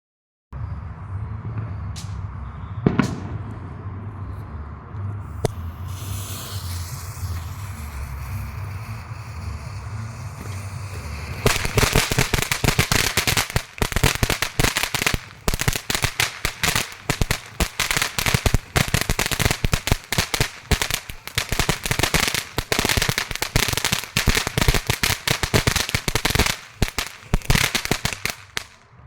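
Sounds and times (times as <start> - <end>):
firework popping and crackling: 2.0 - 3.8, 5.2 - 29.0.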